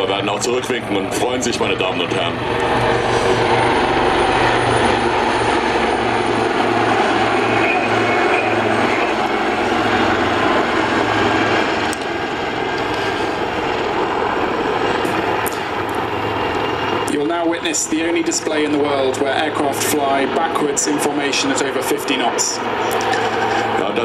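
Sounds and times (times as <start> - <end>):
helicopters flying past: 0.0 - 24.0.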